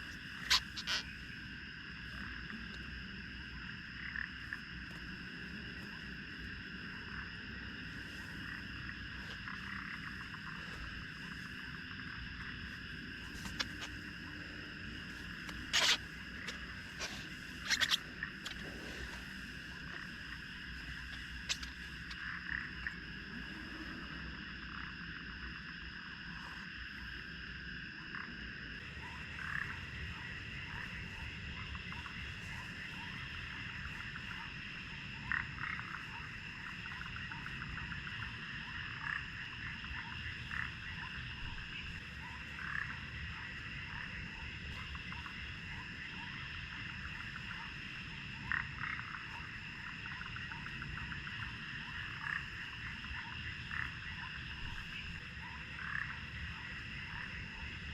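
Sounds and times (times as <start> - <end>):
frog croaks: 0.0 - 57.9
frogs trilling in chorus: 0.0 - 57.9.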